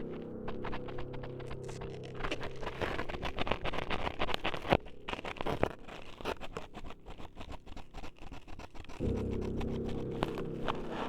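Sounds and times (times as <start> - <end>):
close-miked scraping and crackling: 0.0 - 11.0.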